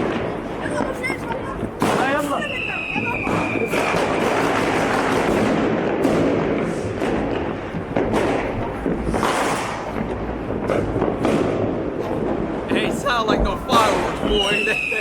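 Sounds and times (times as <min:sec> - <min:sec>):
firecrackers crackling: 0:00.0 - 0:15.0
sharp fireworks bangs: 0:00.0 - 0:15.0.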